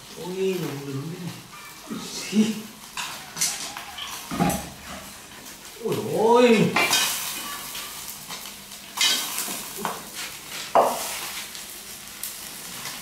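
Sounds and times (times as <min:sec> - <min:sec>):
food sizzling in a metal pot: 0:00.0 - 0:13.0.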